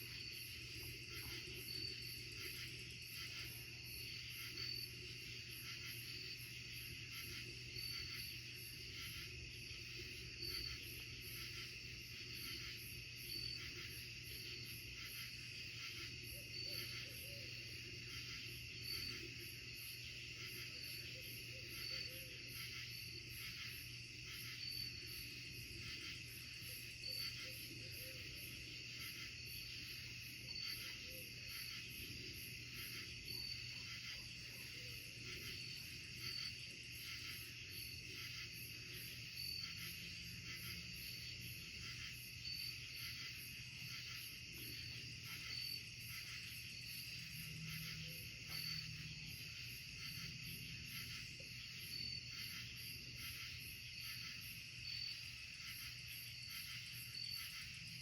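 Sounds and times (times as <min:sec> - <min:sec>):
insects trilling: 0:00.0 - 0:58.0
sharp high insect chirp: 0:00.0 - 0:58.0.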